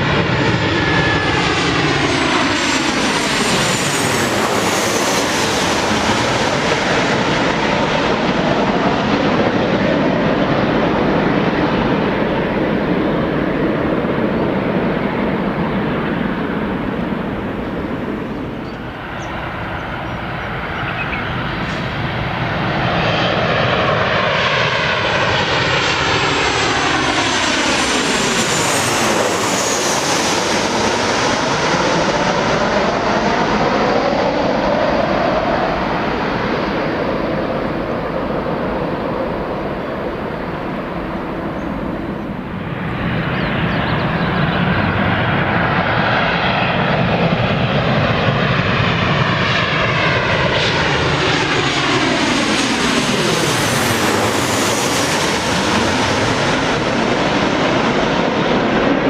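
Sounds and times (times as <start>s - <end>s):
jet airliner passing overhead: 0.0s - 59.0s.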